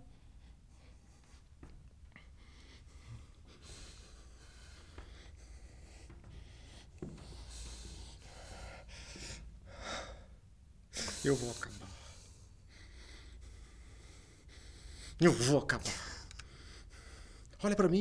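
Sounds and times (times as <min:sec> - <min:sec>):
person breathing: 0:00.0 - 0:15.2, 0:15.9 - 0:17.6.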